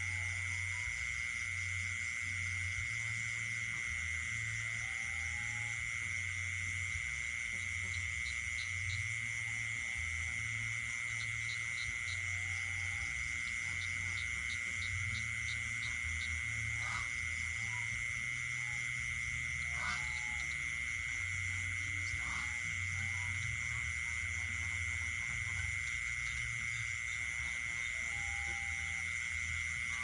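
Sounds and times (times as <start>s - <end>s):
high insect trill: 0.0s - 30.0s
low frog croaks: 0.0s - 30.0s.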